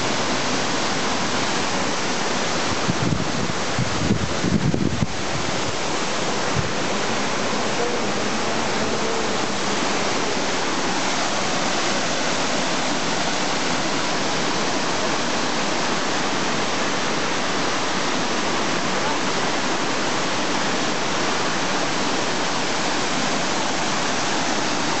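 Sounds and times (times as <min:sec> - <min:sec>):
waterfall rushing into a pool: 0:00.0 - 0:25.0.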